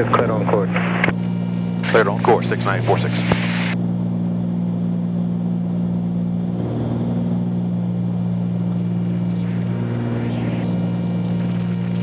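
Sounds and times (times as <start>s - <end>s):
twin propeller engines droning: 0.0s - 12.0s.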